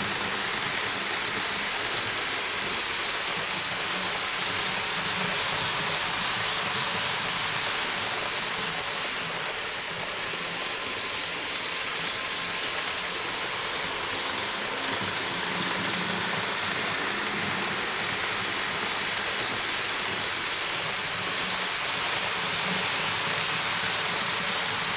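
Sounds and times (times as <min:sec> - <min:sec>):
model train whirring on track: 0:00.0 - 0:24.9.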